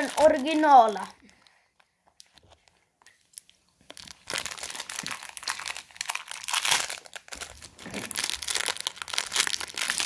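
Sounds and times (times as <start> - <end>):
plastic sweets bag crinkling: 0.0 - 10.0.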